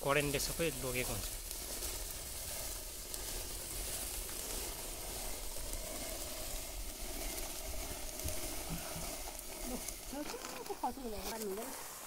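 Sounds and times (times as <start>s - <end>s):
hand quern grinding grain: 0.0s - 12.0s.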